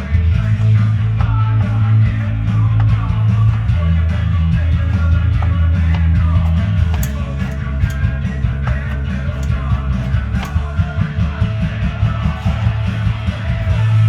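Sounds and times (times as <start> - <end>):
drums: 0.0 - 14.0
punk rock song: 0.0 - 14.0.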